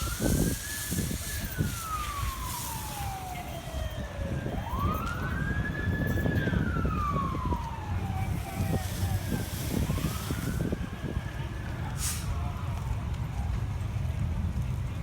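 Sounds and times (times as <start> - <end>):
emergency siren wailing: 0.0 - 14.6.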